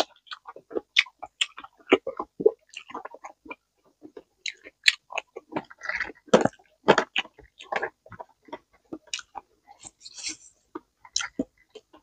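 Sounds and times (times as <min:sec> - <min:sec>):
chewing crunches: 0:00.0 - 0:12.0
wet mouth sounds: 0:00.0 - 0:12.0.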